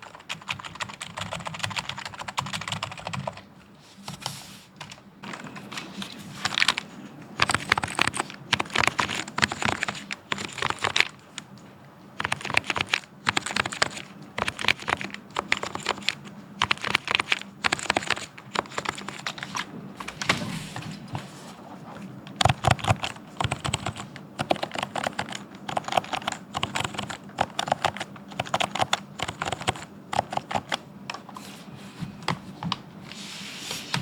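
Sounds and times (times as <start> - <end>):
keyboard typing: 0.0 - 3.5, 4.1 - 11.6, 12.2 - 20.4, 22.3 - 31.4.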